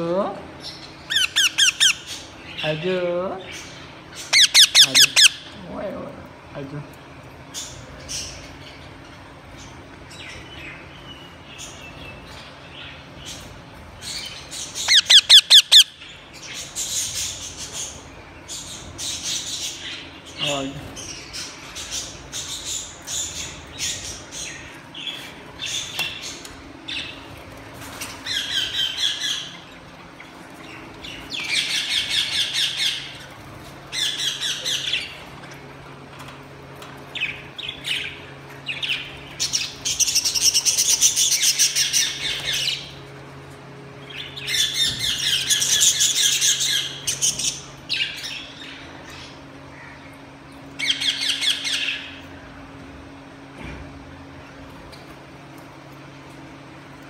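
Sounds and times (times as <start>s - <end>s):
parakeets screeching: 0.6s - 5.9s, 7.5s - 35.3s, 37.0s - 43.1s, 44.0s - 52.5s.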